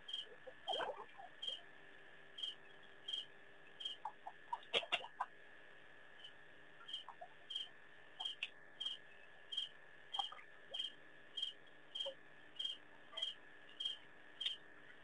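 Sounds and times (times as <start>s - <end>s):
small animal chirping: 0.0s - 1.6s, 2.4s - 5.3s, 6.2s - 14.7s
faint high whine: 0.0s - 15.0s.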